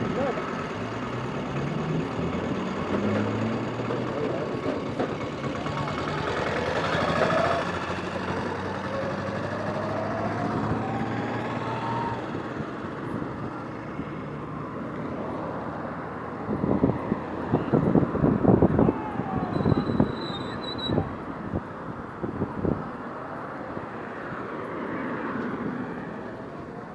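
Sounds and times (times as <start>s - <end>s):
vehicle pulling away: 0.0s - 22.8s
vehicle engines running: 0.0s - 26.9s.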